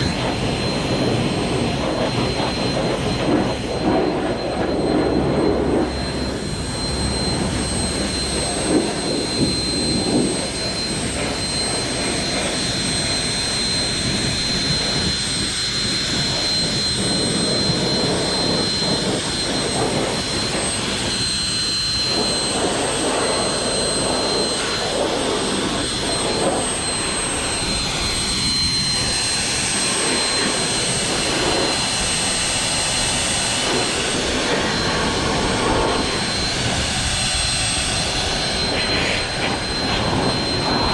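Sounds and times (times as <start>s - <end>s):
leaf blower whining: 0.0s - 40.9s.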